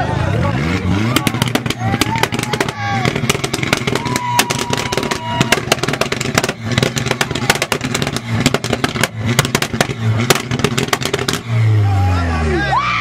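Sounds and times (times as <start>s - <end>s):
low engine note: 0.0s - 13.0s
exhaust popping and crackling: 0.4s - 11.8s.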